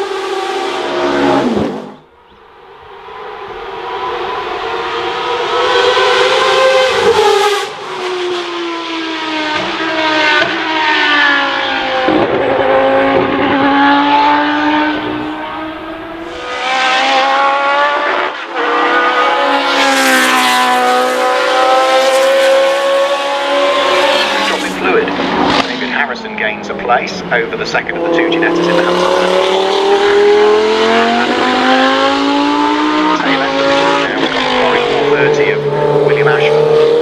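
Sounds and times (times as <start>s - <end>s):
racing cars passing at speed: 0.0s - 37.0s.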